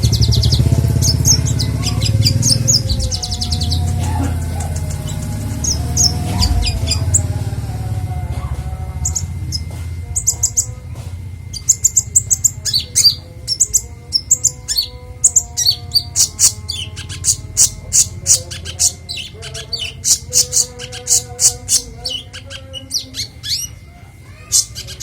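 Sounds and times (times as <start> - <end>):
songbird chirping and twittering: 0.0 - 25.0
steady low hum: 0.0 - 25.0.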